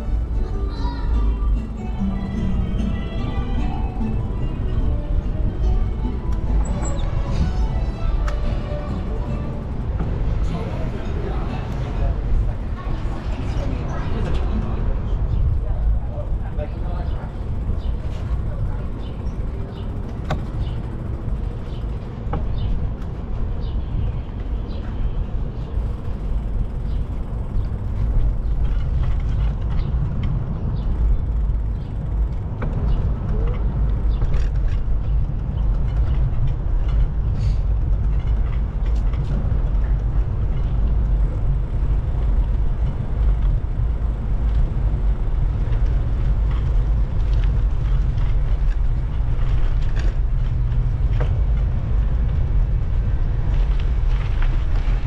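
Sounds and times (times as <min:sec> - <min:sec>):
bicycle clicks and rattles: 0:00.0 - 0:55.0
wind and road noise: 0:00.0 - 0:55.0.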